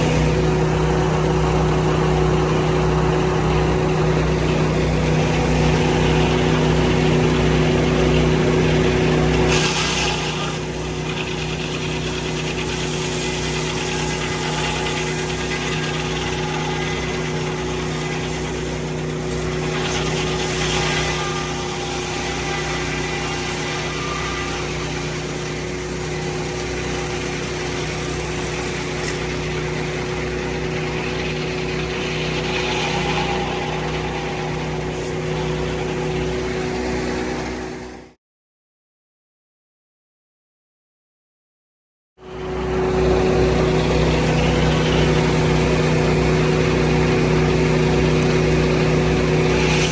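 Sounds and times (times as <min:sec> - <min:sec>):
sawmill engine running: 0:00.0 - 0:38.2, 0:42.2 - 0:49.9.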